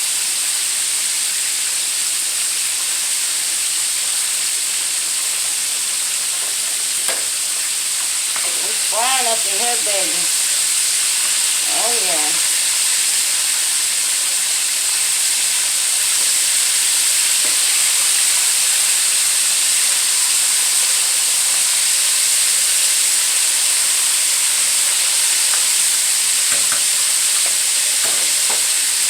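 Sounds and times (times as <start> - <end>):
chicken wings sizzling in oil: 0.0 - 29.0.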